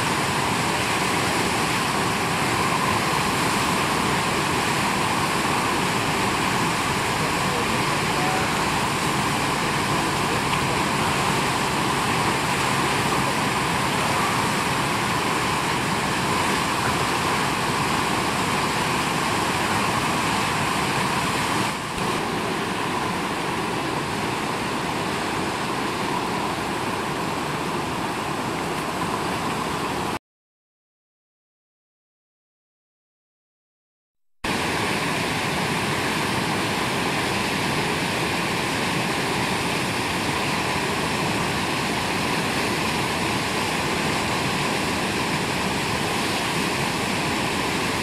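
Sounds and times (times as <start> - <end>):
whitewater rapids roaring: 0.0 - 30.2, 34.5 - 48.0.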